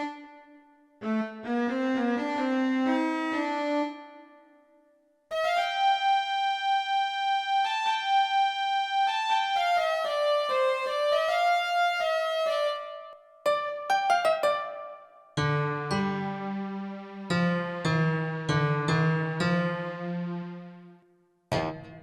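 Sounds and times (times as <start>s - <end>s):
keyboard folk-style melody: 0.0s - 22.0s.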